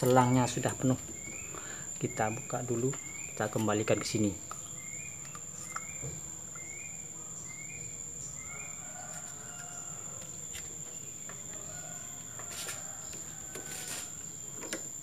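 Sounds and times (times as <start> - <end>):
bird chirping: 0.0 - 15.0
insects droning: 0.0 - 15.0.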